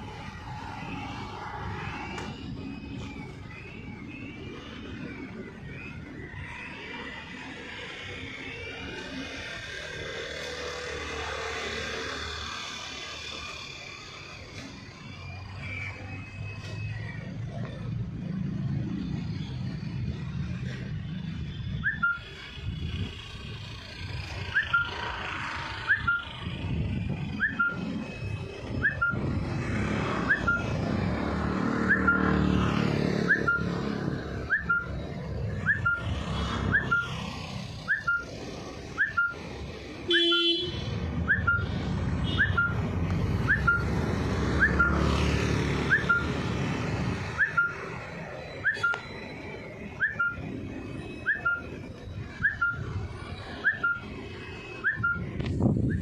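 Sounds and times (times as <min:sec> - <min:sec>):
high rising chirp: 0:00.0 - 0:39.9, 0:41.2 - 0:56.0
road traffic rumble: 0:00.0 - 0:56.0.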